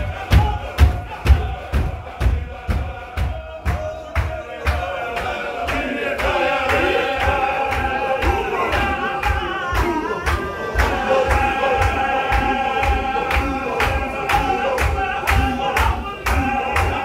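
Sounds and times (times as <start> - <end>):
men chanting together: 0.0 - 17.0.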